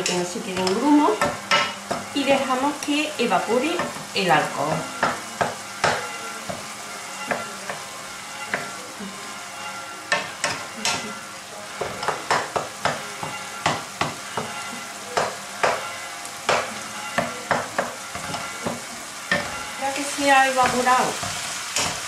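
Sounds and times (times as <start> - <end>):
food sizzling in a pan: 0.0 - 22.0
wooden spoon scraping a pan: 0.0 - 22.0.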